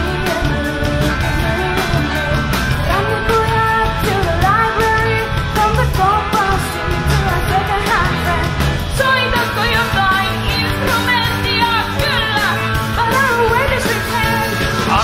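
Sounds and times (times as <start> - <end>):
live rock band playing: 0.0 - 15.0
woman singing lead: 0.0 - 15.0.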